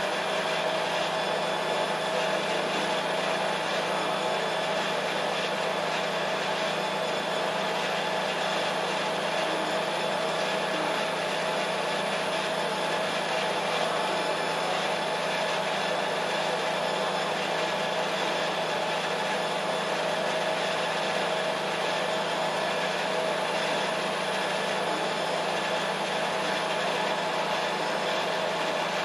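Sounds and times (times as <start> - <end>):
mid-pitched machine hum: 0.0 - 29.0.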